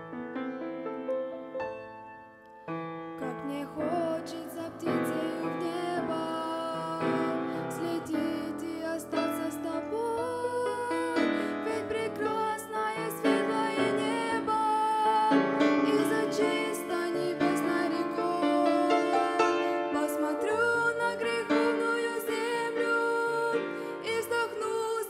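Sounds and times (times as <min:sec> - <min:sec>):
grand piano playing: 0:00.0 - 0:25.0.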